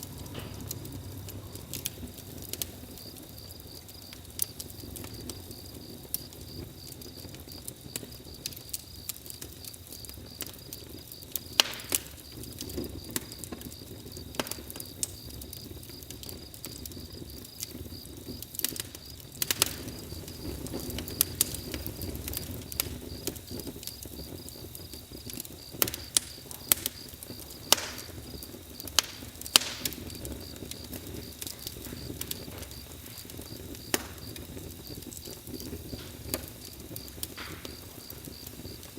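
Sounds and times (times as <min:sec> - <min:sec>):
campfire crackling and popping: 0:00.0 - 0:38.9
crickets chirping: 0:00.0 - 0:38.9.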